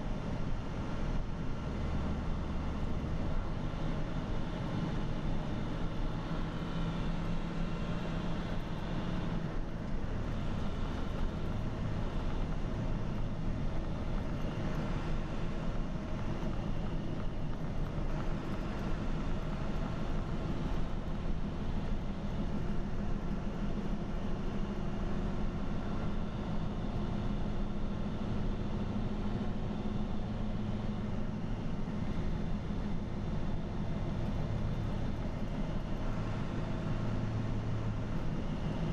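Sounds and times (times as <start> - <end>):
truck engine and tyre drone: 0.0 - 38.9.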